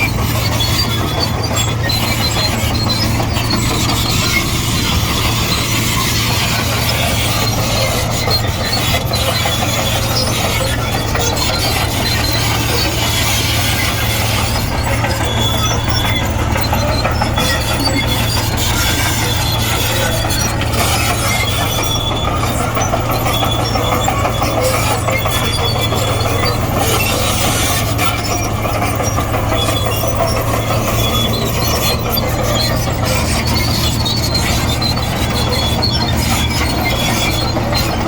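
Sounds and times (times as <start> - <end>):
bulldozer diesel engine drone: 0.0 - 38.0
steel tracks clattering: 0.0 - 38.0
track squeals: 0.0 - 38.0.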